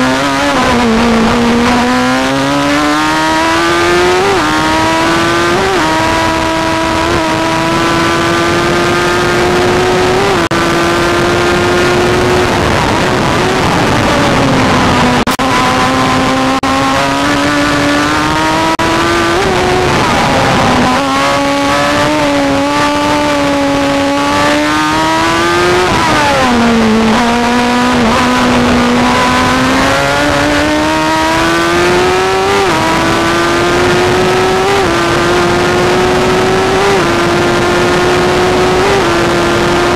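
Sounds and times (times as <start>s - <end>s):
racing car engine revving: 0.0s - 39.9s
wind noise: 0.0s - 39.9s.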